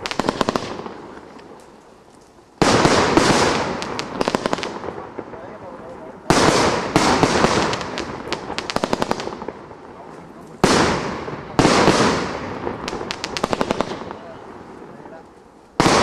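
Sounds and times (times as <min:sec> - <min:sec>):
loud firework bangs: 0:00.0 - 0:01.3, 0:02.6 - 0:15.2, 0:15.8 - 0:16.0
crackling firework pops: 0:00.0 - 0:14.4.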